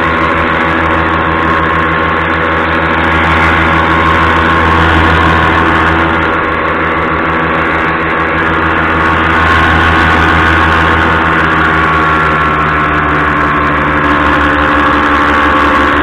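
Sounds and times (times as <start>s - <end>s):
paramotor engine drone: 0.0s - 16.0s.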